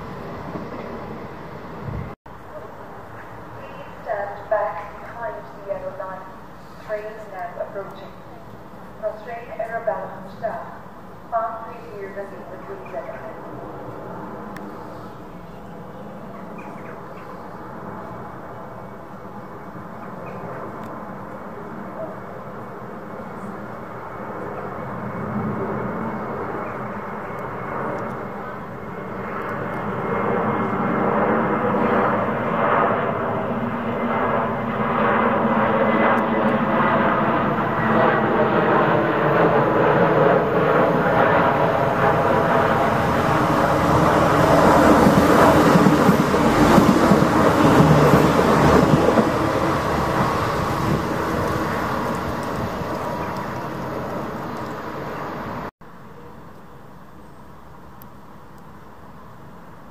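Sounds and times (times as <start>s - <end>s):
train passing at speed: 0.0s - 56.3s.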